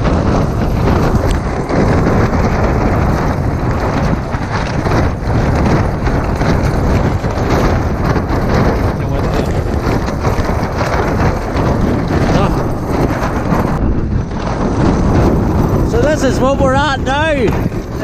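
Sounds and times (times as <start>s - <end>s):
heavy wind rushing: 0.0s - 18.0s
tent fabric flapping: 0.0s - 18.0s.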